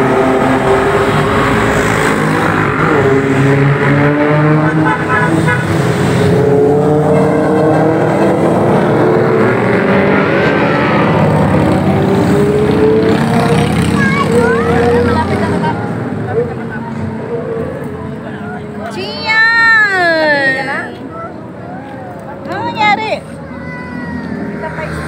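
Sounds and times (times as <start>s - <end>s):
motorcycles passing: 0.0s - 25.0s.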